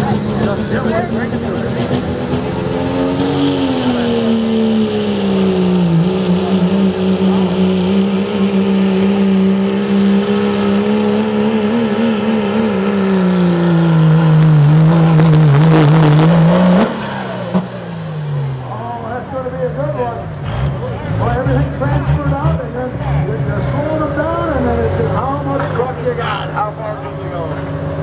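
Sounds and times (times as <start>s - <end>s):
diesel engine at full throttle: 0.0s - 28.0s.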